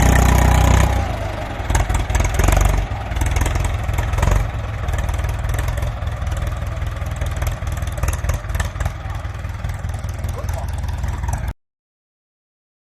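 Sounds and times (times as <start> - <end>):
tractor diesel engine running: 0.0 - 11.6.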